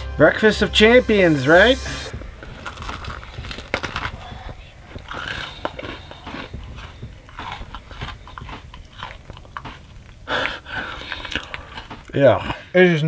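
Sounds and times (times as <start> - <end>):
person chewing crunchy food: 2.1 - 12.8.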